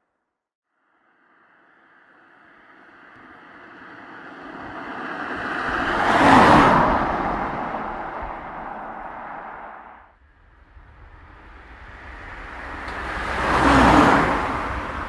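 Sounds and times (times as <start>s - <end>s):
vehicle passing by: 1.9s - 10.1s, 10.7s - 15.0s.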